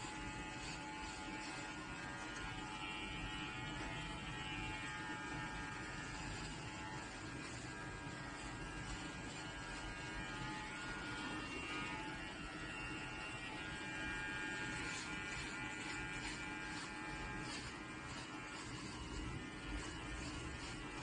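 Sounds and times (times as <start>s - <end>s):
electric hair clippers buzzing: 0.0s - 21.0s.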